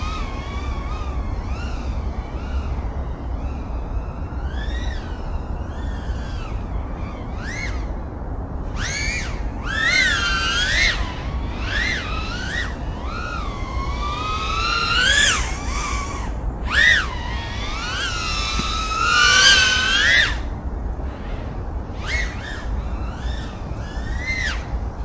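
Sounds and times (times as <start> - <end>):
drone motors whining: 0.0 - 25.0
wind noise rumble: 0.0 - 25.0.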